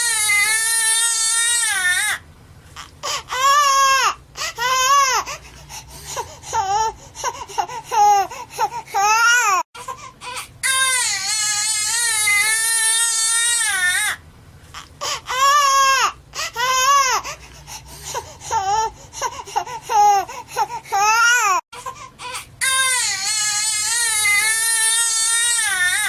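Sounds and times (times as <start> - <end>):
infant crying: 0.0 - 2.2, 2.8 - 5.4, 6.0 - 14.2, 14.8 - 17.4, 18.0 - 26.0.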